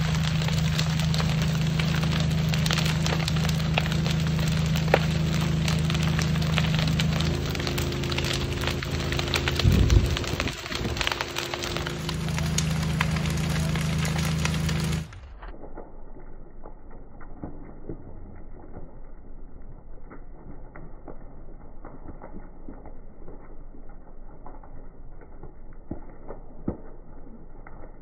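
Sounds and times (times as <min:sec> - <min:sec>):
fire crackling and popping: 0:00.0 - 0:28.0
low machine drone: 0:00.0 - 0:28.0
low rumble: 0:00.0 - 0:28.0.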